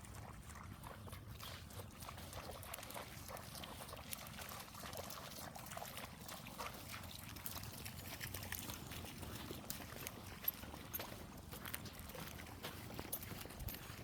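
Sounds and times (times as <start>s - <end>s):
faint trickling water: 0.0s - 14.0s
small ticks and splashes: 0.0s - 14.0s.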